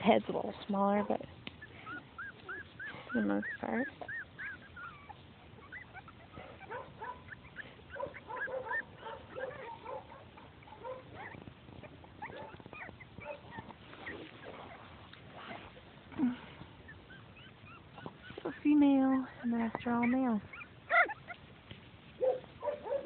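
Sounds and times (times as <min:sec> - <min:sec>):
puppies whimpering and squeaking: 0:00.3 - 0:23.0.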